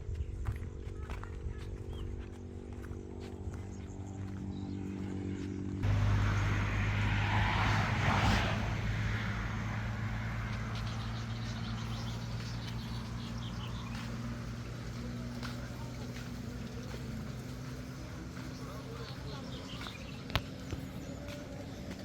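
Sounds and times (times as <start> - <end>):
passing vehicle engine hum: 1.6 - 22.0.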